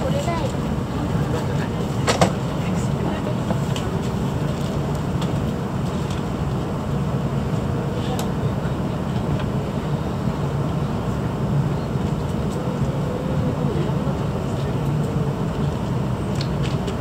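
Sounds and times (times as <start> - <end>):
train rumbling inside cabin: 0.0 - 17.0.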